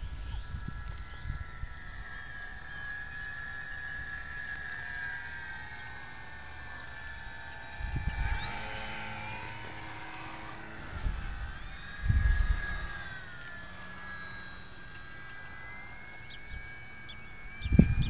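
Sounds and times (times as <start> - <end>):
model plane propellers whining: 0.0 - 18.0.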